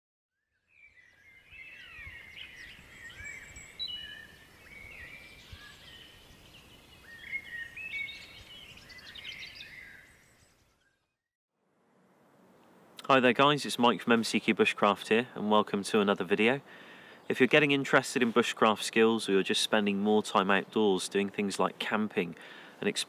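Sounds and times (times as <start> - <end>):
songbirds singing and calling: 0.5 - 11.2, 13.0 - 23.0.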